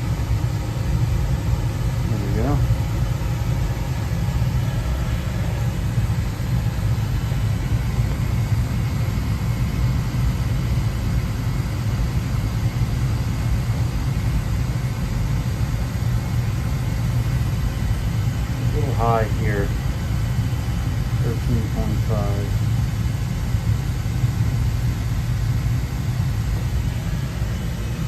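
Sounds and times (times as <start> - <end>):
oil burner low rumble: 0.0 - 28.0.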